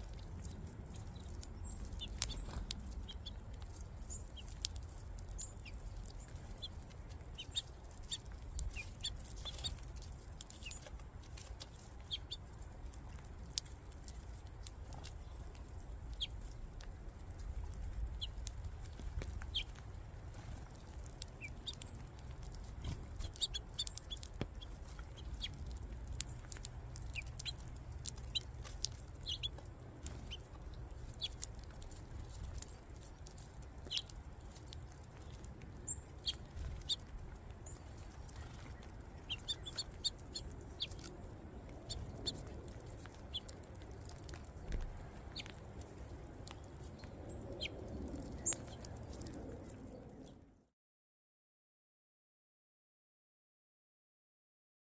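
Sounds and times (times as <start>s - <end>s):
birds chirping: 0.0s - 50.5s
steady low rumble: 0.0s - 50.6s.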